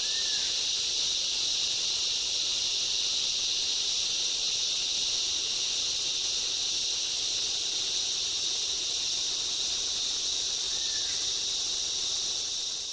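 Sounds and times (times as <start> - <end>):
insects chorus: 0.0 - 12.9.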